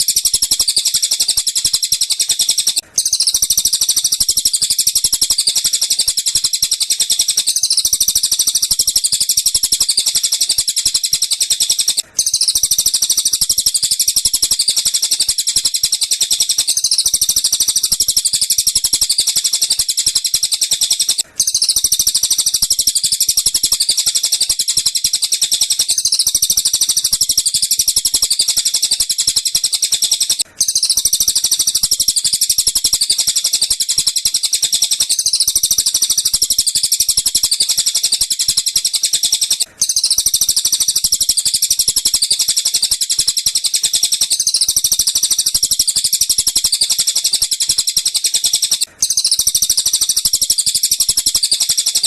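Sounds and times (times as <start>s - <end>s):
high-pitched bird chatter and trilling: 0.0s - 52.0s.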